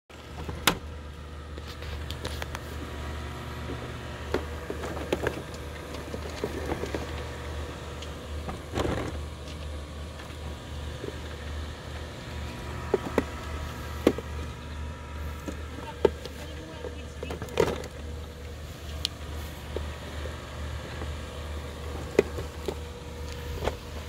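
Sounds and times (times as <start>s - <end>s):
robotic mower humming: 0.1s - 24.0s.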